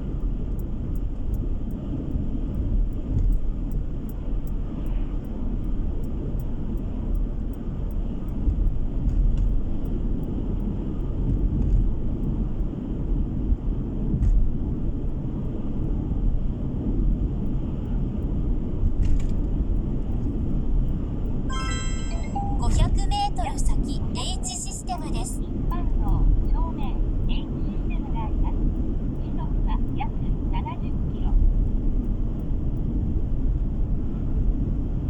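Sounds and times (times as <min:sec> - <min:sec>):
car interior road rumble: 0:00.0 - 0:21.5, 0:22.3 - 0:35.0.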